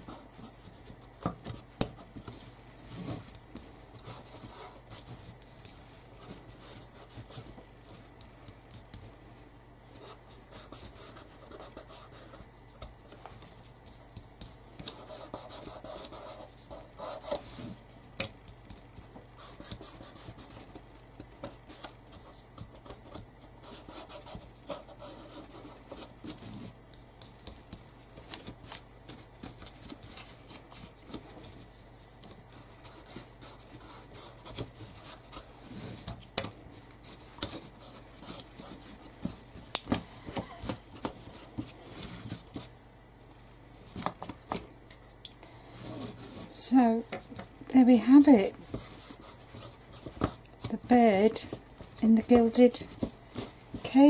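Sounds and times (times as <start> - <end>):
scratching and rubbing on craft pieces: 0.0 - 9.3, 9.9 - 42.7, 45.7 - 47.0, 47.8 - 54.0.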